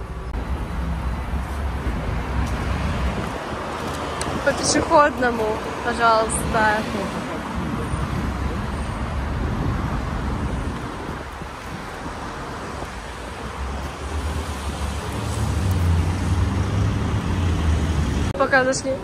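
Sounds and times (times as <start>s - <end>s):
road traffic rumbling: 0.0s - 19.0s.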